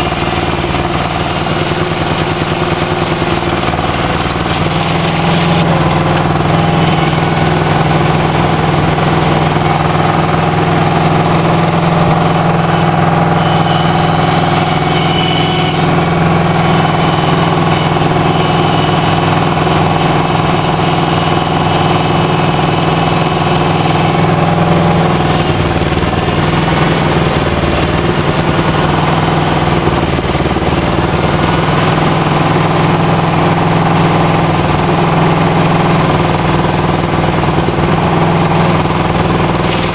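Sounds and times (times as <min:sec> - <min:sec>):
engine humming under load: 0:00.0 - 0:39.9.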